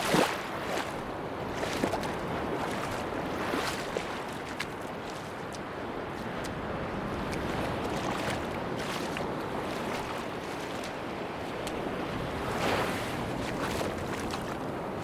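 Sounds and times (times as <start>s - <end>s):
sea waves washing on beach: 0.0s - 15.0s.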